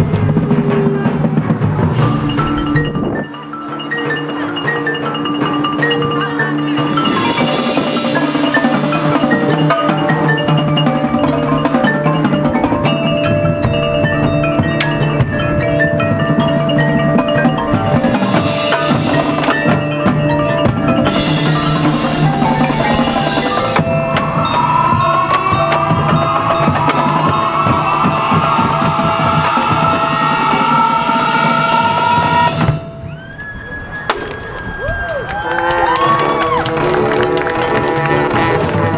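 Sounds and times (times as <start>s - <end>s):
marching band playing: 0.0s - 33.1s, 35.5s - 38.9s.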